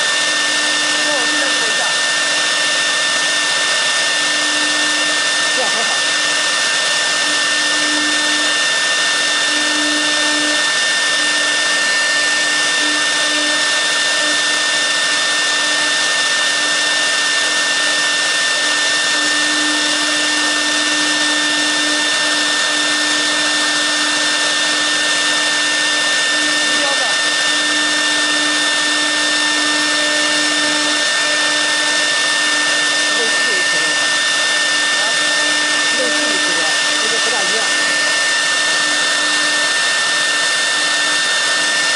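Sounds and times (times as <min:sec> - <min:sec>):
cooling fan rushing: 0:00.0 - 0:41.9
router spindle whine: 0:00.0 - 0:41.9.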